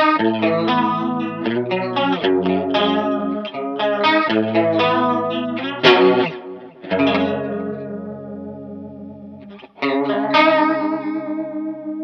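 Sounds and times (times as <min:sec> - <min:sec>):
electric guitar chords with chorus: 0:00.0 - 0:12.0.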